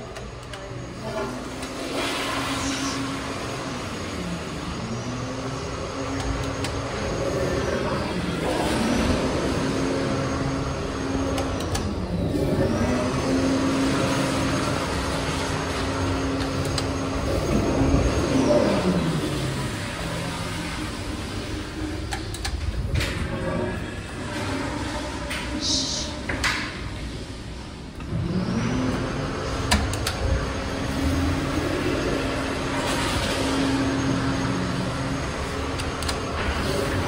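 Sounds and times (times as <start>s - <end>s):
toilets flushing: 0.0s - 37.0s.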